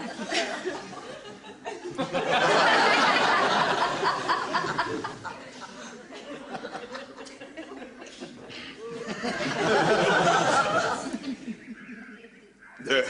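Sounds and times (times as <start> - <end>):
studio audience laughing: 0.0 - 12.0.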